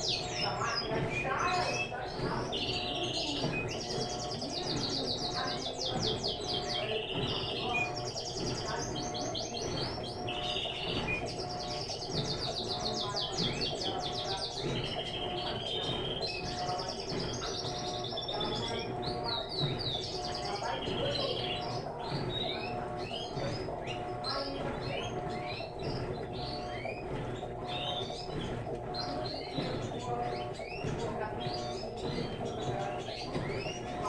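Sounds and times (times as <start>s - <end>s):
small birds chirping and trilling: 0.0s - 34.0s.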